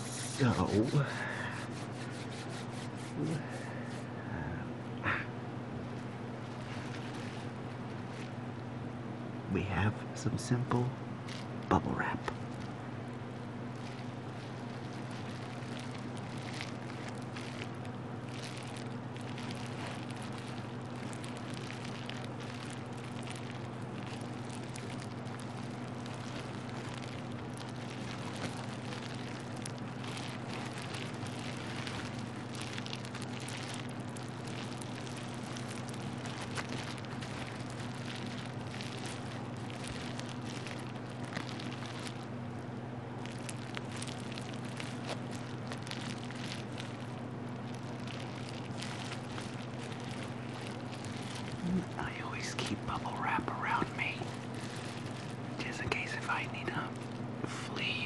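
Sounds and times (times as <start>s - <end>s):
bubble wrap crackling: 0.0s - 4.2s, 5.1s - 9.6s, 10.4s - 58.0s
steady low hum: 0.0s - 58.0s.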